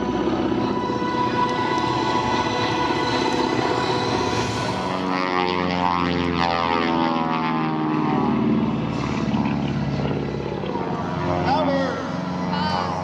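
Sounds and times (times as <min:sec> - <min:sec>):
propeller airplane flying past: 0:00.0 - 0:13.0.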